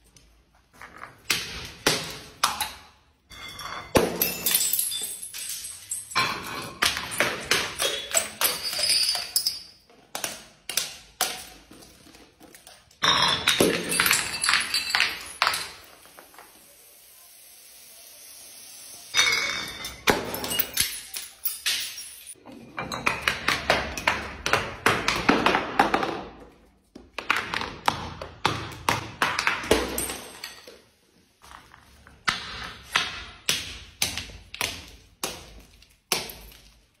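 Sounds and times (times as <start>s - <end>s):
bottles clinking down stone stairs: 0.6s - 16.6s, 19.1s - 37.0s.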